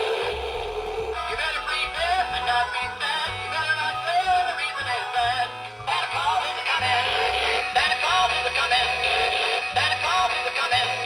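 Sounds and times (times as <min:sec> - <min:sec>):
bass line: 0:00.0 - 0:11.0
person singing: 0:00.0 - 0:11.0.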